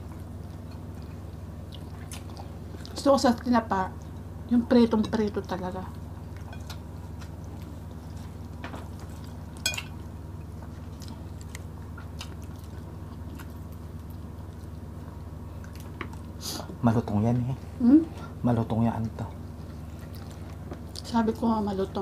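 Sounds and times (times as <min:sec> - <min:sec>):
chewing and wet mouth sounds: 0:00.0 - 0:04.3, 0:05.0 - 0:17.5, 0:19.0 - 0:21.6
steady low hum: 0:00.0 - 0:22.0.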